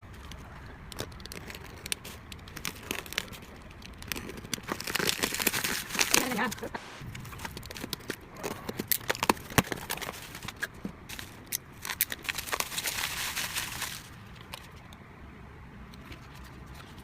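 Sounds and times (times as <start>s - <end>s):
plastic packaging crinkling: 0.1s - 14.7s.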